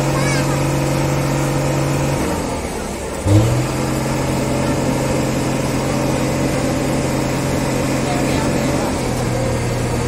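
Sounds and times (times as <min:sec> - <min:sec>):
truck diesel engine revving: 0:00.0 - 0:10.0.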